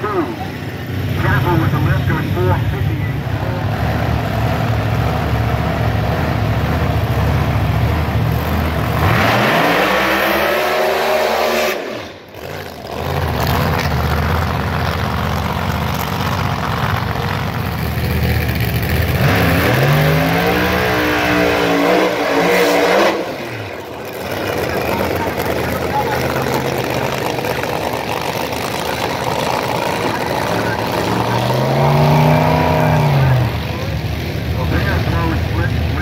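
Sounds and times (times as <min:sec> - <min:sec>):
engine revving: 0:00.0 - 0:36.0
race car engines running: 0:00.0 - 0:36.0.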